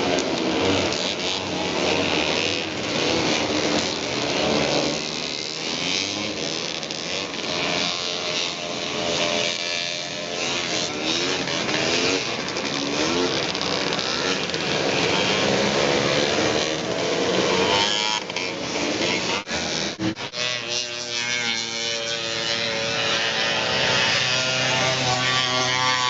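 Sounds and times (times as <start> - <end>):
snowmobile engines running hard: 0.0 - 26.0.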